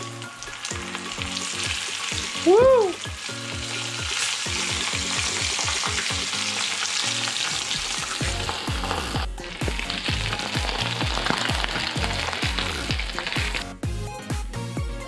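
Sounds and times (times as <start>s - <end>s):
bass-heavy music beat: 0.0s - 6.4s, 8.0s - 15.0s
fish frying in hot oil: 0.0s - 13.8s.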